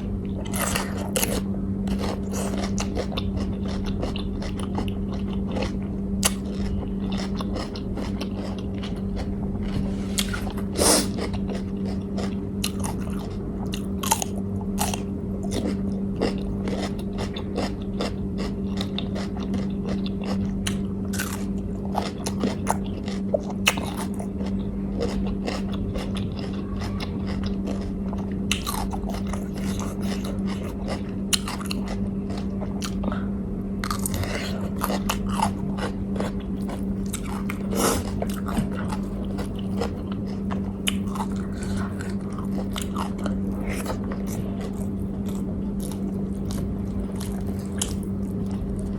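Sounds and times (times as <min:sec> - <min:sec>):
low hum: 0:00.0 - 0:48.9
person chewing crunchy food: 0:00.0 - 0:48.9.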